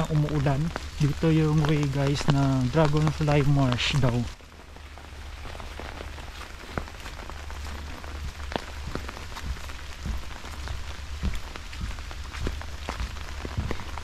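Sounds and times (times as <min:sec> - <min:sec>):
low rumble: 0:00.0 - 0:14.0
raindrops tapping on umbrella: 0:00.0 - 0:14.0.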